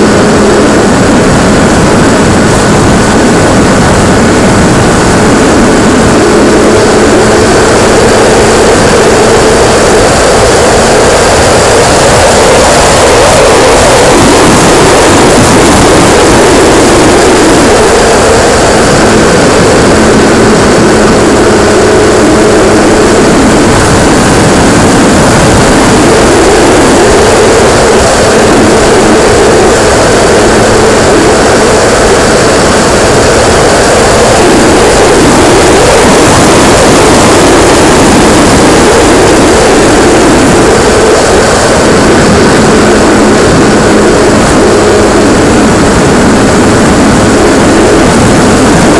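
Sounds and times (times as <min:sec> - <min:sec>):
model plane motor and propeller: 0:00.0 - 0:48.9.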